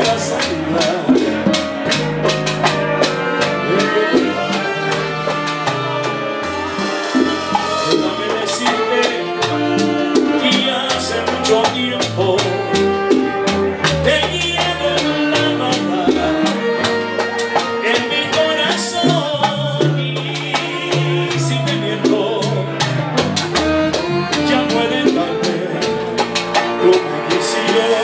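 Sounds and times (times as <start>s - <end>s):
person singing: 0.0s - 1.6s, 3.4s - 5.5s, 7.1s - 13.3s, 13.9s - 23.0s, 23.9s - 28.0s
congas and timbales hits: 0.0s - 28.0s
salsa band playing: 0.0s - 28.0s.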